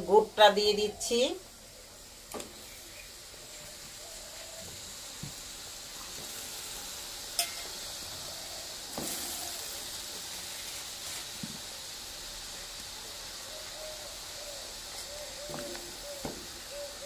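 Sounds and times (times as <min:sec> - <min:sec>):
water sizzling in a steel pan: 0:00.0 - 0:17.0.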